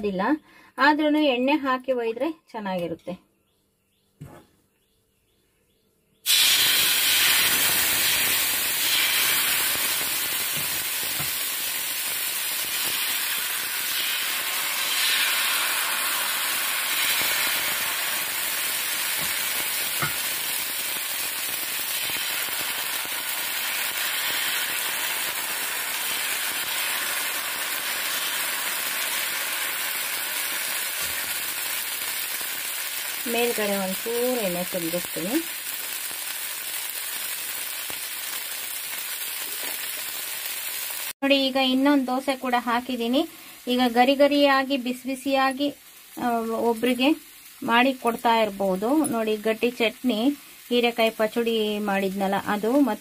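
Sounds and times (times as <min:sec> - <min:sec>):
batter sizzling on hot pan: 0:06.2 - 0:53.0.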